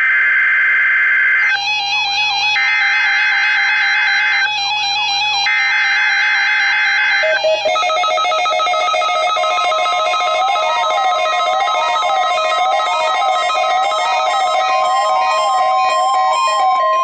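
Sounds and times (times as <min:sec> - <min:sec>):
chord of electronic tones: 0:01.2 - 0:17.0.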